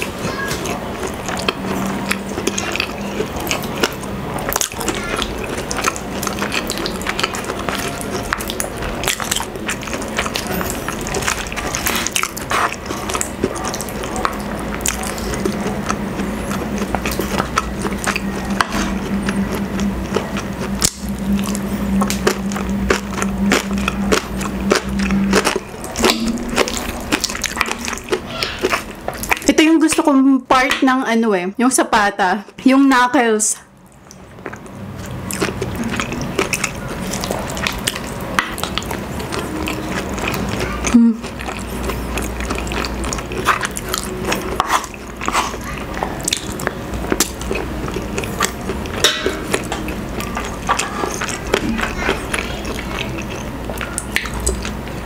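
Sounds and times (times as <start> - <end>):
wet chewing and lip-smacking: 0.0 - 30.1, 33.7 - 55.0.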